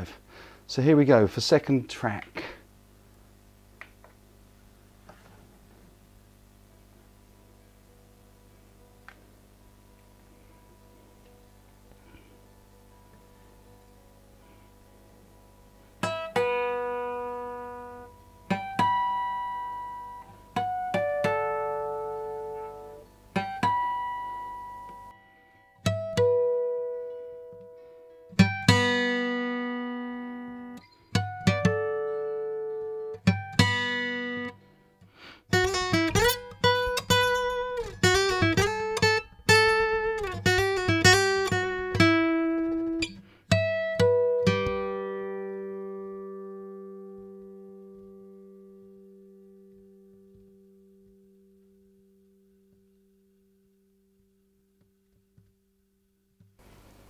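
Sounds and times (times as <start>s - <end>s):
acoustic guitar picked melody: 5.0s - 55.6s.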